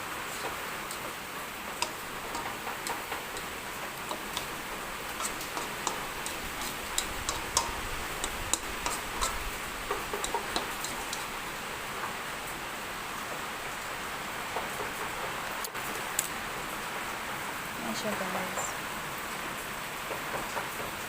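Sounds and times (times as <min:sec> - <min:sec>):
pan sizzling with pops: 0:00.0 - 0:13.7, 0:14.4 - 0:16.7, 0:19.9 - 0:21.0.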